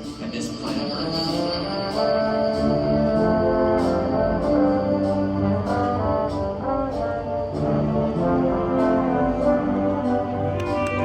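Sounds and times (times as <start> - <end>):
brass chords: 0.0 - 11.0
percussion strikes: 0.0 - 11.0.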